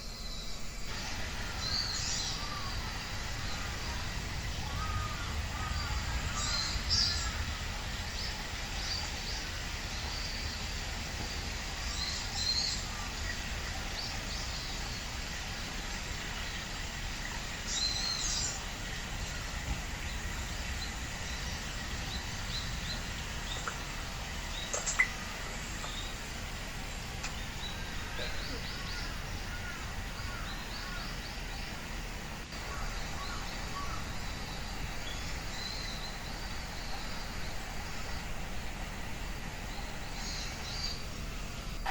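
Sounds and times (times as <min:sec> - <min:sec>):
low background rumble: 0:00.0 - 0:41.9
songbirds chirping: 0:00.0 - 0:41.9
low rushing background: 0:00.2 - 0:41.9.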